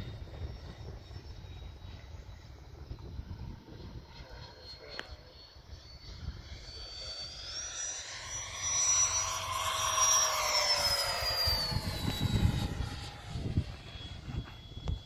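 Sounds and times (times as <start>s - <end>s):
model jet fan whine: 0.0s - 15.0s.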